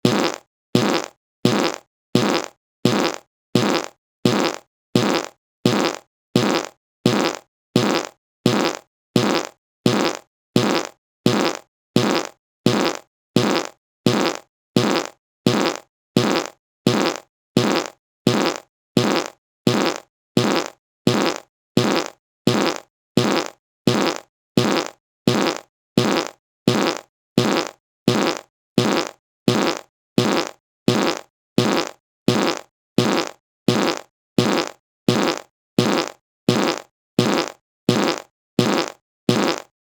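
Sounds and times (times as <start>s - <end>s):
fart sound: 0.0s - 39.7s.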